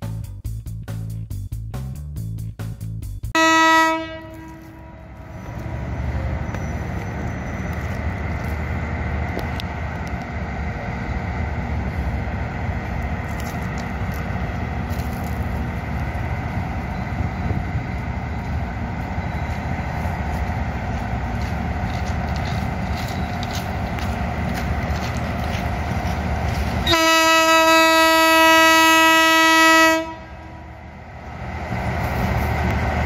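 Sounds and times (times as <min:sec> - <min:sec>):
diesel locomotive rumble: 0:00.0 - 0:33.0
road traffic noise: 0:03.3 - 0:33.0.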